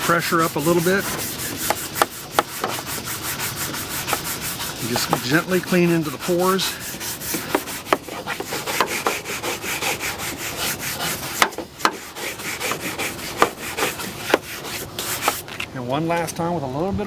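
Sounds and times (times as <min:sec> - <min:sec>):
brush scrubbing textured plastic: 0:00.0 - 0:16.2.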